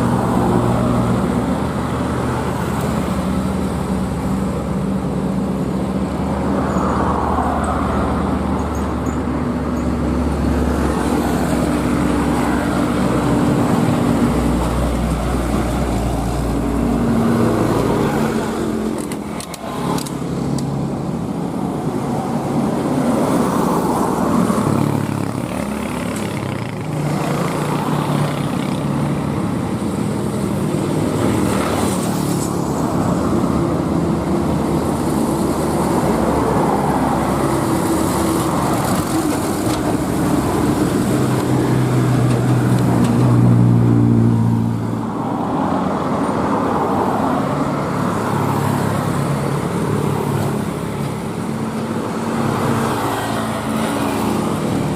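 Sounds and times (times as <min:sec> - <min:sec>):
heavy truck engines under load: 0:00.0 - 0:54.9
road traffic noise: 0:00.0 - 0:54.9.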